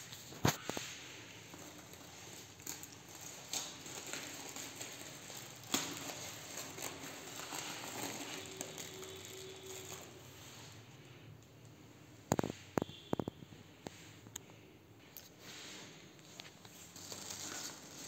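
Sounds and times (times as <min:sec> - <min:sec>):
plastic wrapping crinkling: 0:00.0 - 0:11.6, 0:12.2 - 0:13.4, 0:15.1 - 0:18.0.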